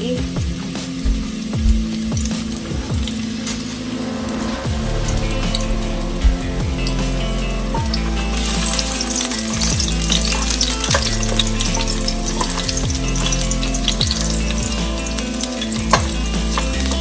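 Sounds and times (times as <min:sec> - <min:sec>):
garlic and ginger sizzling in oil: 0:00.0 - 0:17.0.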